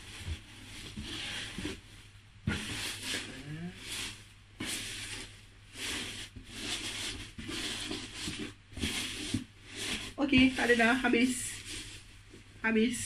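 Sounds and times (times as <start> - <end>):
shredded paper rustling in box: 0.0 - 13.0.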